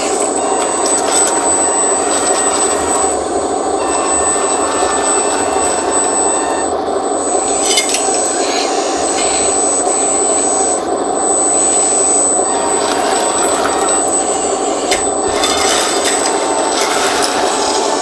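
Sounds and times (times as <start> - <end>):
hydraulic pump high whine: 0.0 - 18.0.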